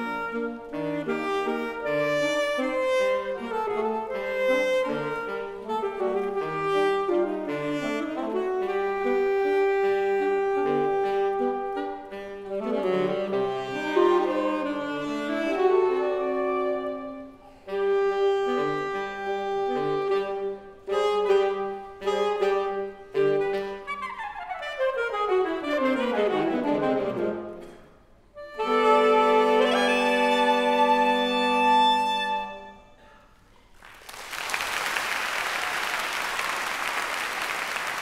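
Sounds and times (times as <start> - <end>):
saxophone quartet playing: 0.0 - 33.4.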